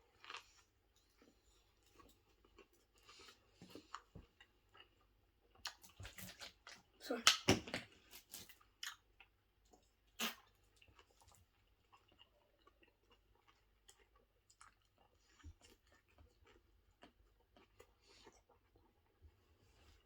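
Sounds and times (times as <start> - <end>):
close chewing with mouth clicks: 0.0 - 20.0.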